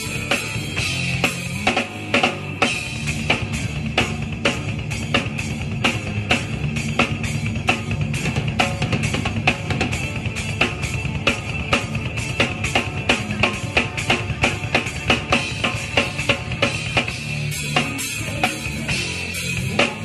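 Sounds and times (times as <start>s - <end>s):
guitar: 0.0s - 20.0s
rock drum beat: 0.0s - 20.0s.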